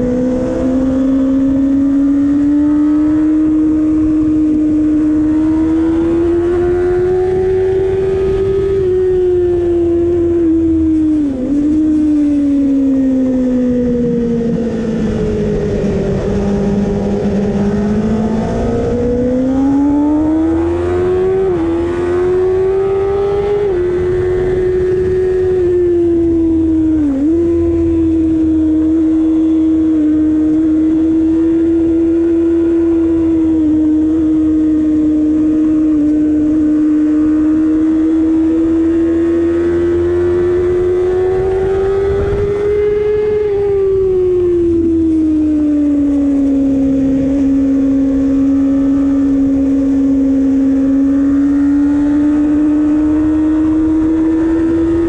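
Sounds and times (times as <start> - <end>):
motorcycle engine at high revs: 0.0 - 55.0.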